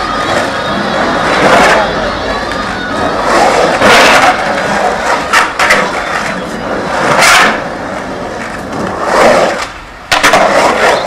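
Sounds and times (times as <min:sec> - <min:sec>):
skateboard clacks: 0:00.0 - 0:11.0
skateboard wheels rolling on concrete: 0:00.0 - 0:11.0.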